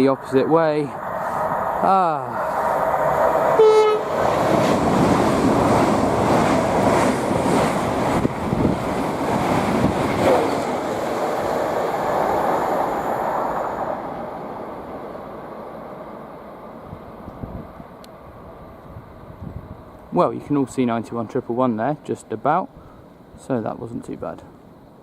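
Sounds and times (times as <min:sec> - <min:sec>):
train wheel and air rush: 0:00.0 - 0:20.1
express trains passing at speed: 0:00.0 - 0:25.0.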